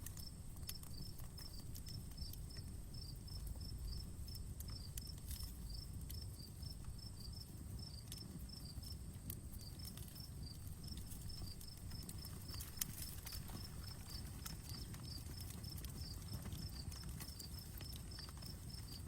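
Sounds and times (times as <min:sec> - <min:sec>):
campfire crackling and popping: 0:00.0 - 0:19.0
insect chirping: 0:00.0 - 0:19.0.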